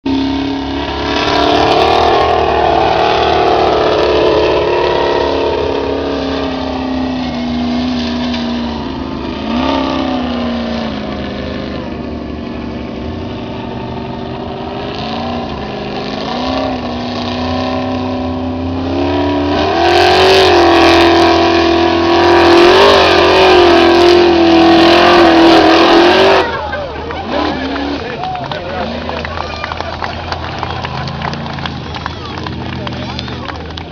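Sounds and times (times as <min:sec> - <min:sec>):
buggy engine revving: 0:00.0 - 0:33.9.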